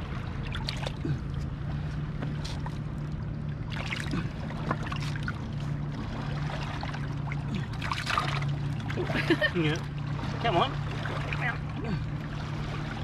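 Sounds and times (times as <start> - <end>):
low motor hum: 0.0 - 13.0
sea water washing: 0.0 - 13.0.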